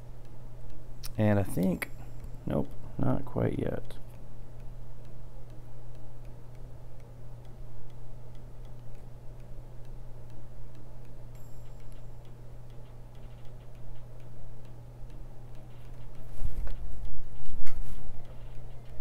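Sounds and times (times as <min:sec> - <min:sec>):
faint regular ticking: 0:00.0 - 0:19.0
steady low hum: 0:00.0 - 0:19.0.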